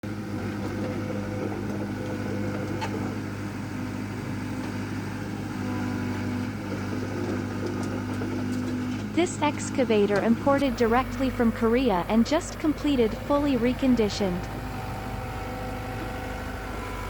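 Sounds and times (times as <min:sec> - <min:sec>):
diesel excavator engine humming: 0:00.0 - 0:17.0.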